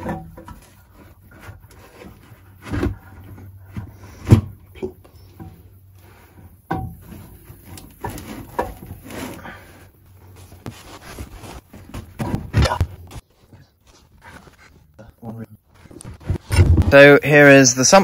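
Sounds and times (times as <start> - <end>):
metal clunks and scrapes: 0.0 - 14.9, 15.7 - 17.2.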